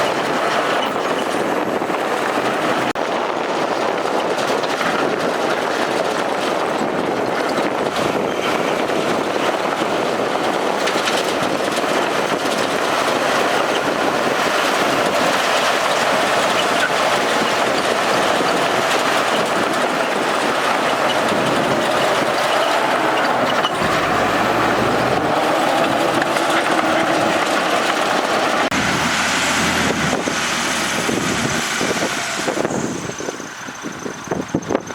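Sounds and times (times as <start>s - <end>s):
heavy diesel machinery running: 0.0s - 34.9s.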